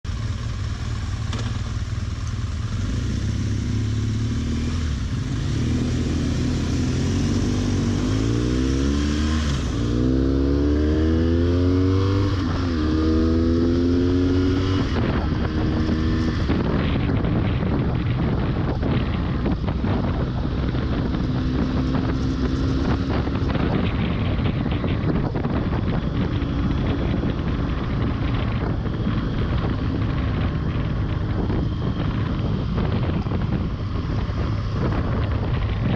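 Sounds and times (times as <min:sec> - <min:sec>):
motorcycle engine accelerating: 0:00.0 - 0:35.9
wind buffeting microphone: 0:02.5 - 0:35.9.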